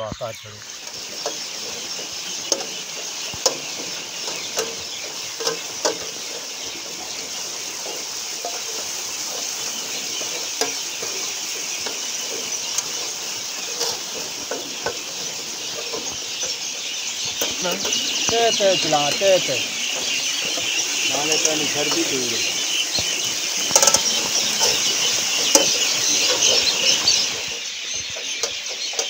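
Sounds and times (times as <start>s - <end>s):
buckets knocking and clanking: 0.0s - 29.0s
water splashing into trough: 0.6s - 29.0s.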